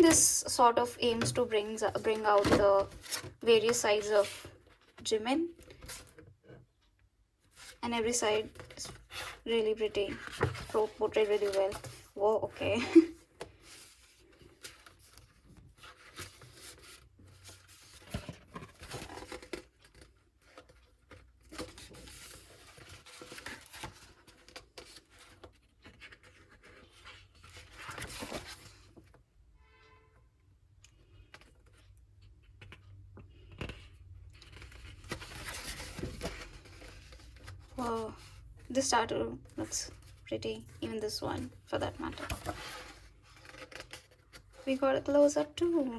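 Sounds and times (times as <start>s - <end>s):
paper pages rustling: 1.0s - 6.2s, 7.6s - 29.0s, 33.5s - 38.9s, 39.6s - 44.7s.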